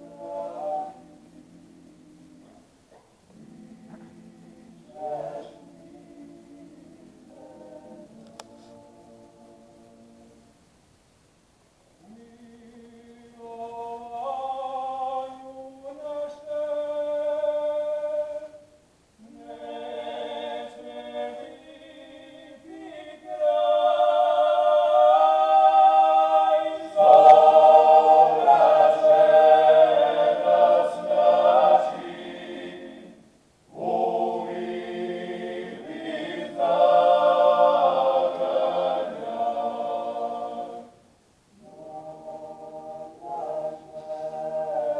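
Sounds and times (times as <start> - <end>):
male choir singing a cappella: 0.0 - 2.6, 3.3 - 10.5, 12.0 - 44.9.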